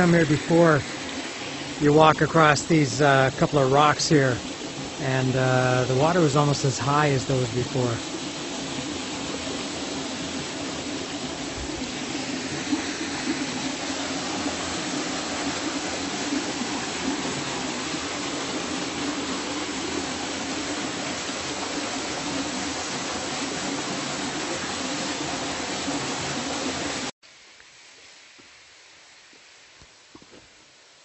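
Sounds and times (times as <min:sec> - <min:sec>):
small waterfall pouring into pool: 0:00.0 - 0:28.1.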